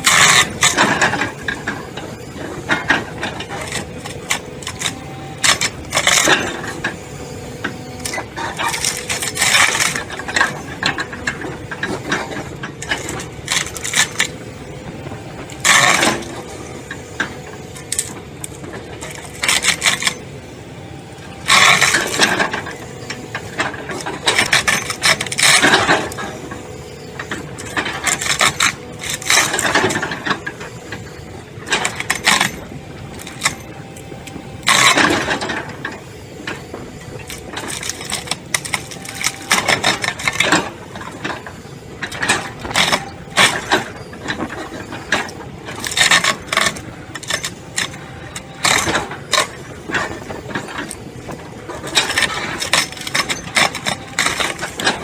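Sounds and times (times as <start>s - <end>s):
machinery running: 0.0s - 55.0s
wood clattering and cracking: 2.4s - 7.0s, 7.6s - 14.4s, 17.2s - 20.2s, 21.4s - 26.4s, 27.2s - 30.7s, 31.6s - 55.0s.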